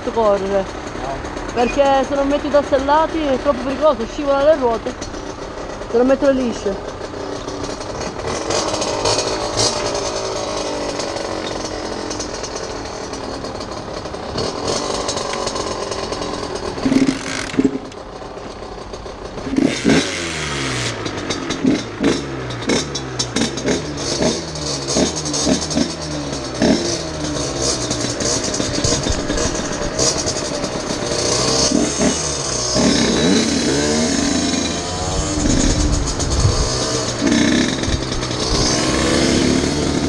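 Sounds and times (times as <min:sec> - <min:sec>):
dirt bike engines rasping: 0:00.0 - 0:40.0
engine throttle blips: 0:00.0 - 0:40.0.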